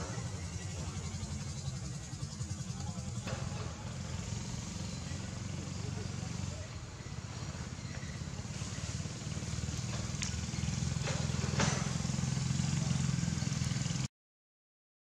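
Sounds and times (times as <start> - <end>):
engine low rumble: 0.0 - 14.1.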